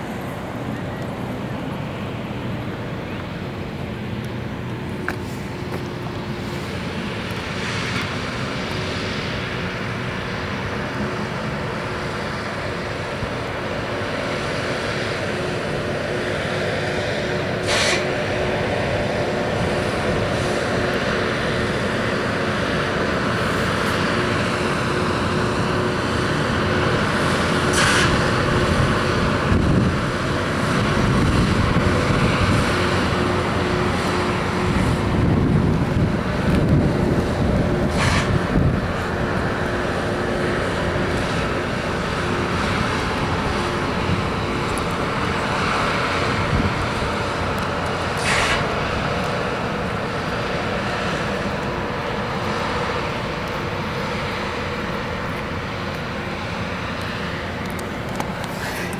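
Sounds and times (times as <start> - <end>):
diesel locomotive engine rumble: 0.0 - 58.9.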